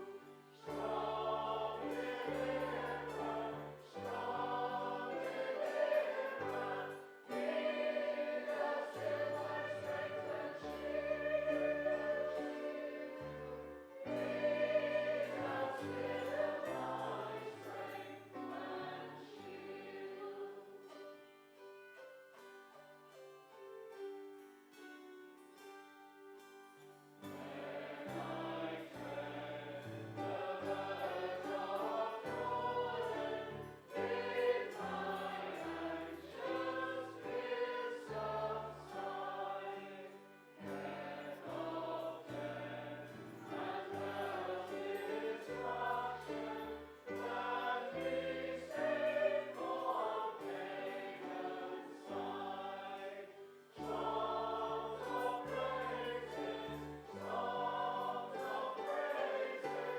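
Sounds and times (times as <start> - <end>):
congregation singing a hymn: 0.0 - 22.0, 27.2 - 59.9
keyboard accompaniment: 0.0 - 23.1, 23.7 - 59.9.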